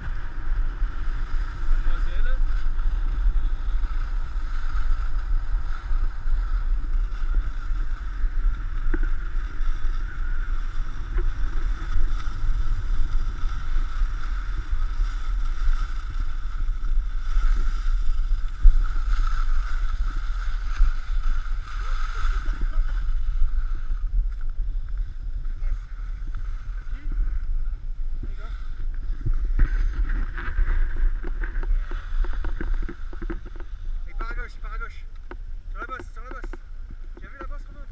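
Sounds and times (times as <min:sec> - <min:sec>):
skis scraping on packed snow: 0:00.0 - 0:37.9
wind buffeting microphone: 0:00.0 - 0:37.9.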